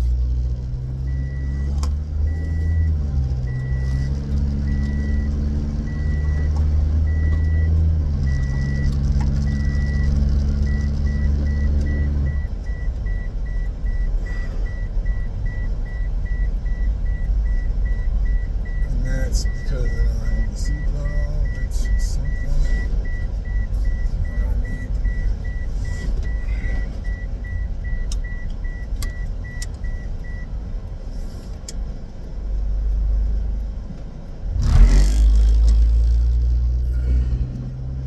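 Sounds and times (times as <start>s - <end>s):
car engine drone: 0.0s - 38.0s
road noise: 0.0s - 38.0s
seatbelt warning chime beeping: 1.1s - 31.8s.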